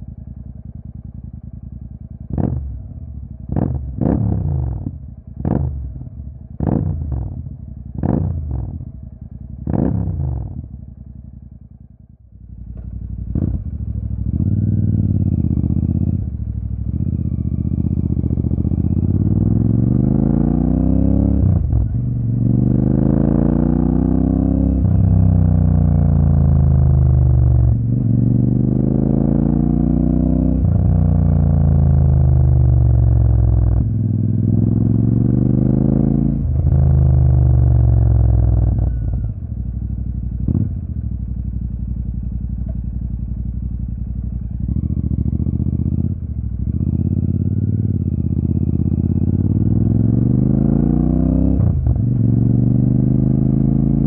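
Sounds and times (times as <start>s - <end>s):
motorcycle accelerating through gears: 0.0s - 11.2s, 12.4s - 54.0s
motorcycle engine revving: 2.2s - 8.8s, 9.5s - 10.8s, 12.6s - 54.0s.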